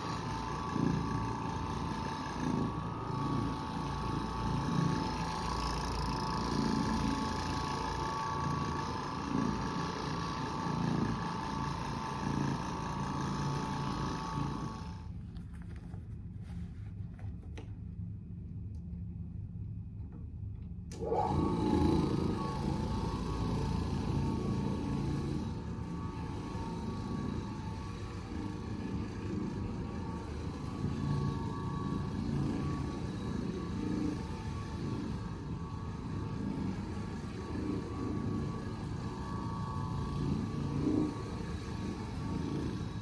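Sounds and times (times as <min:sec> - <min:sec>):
carpet cleaning machine running: 0:00.0 - 0:15.7, 0:20.9 - 0:43.0.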